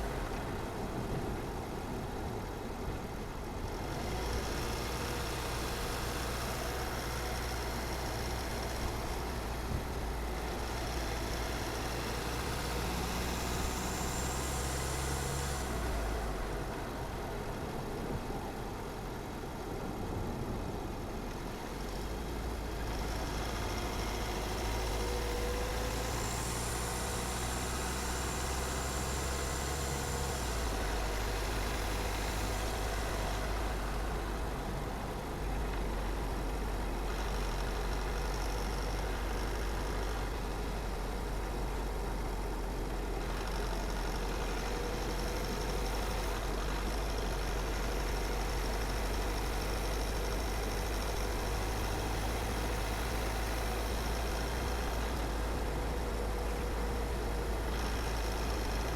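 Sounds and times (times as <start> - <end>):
car engine and tyre noise: 0.0 - 58.9.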